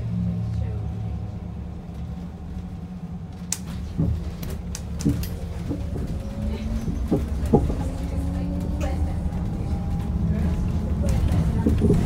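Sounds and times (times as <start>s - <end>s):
bus road rumble: 0.0s - 12.0s
creaks and knocks inside bus: 0.4s - 12.0s.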